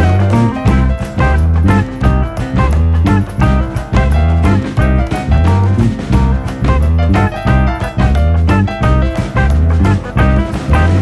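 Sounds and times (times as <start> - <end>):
upbeat guitar music with bass: 0.0 - 11.0.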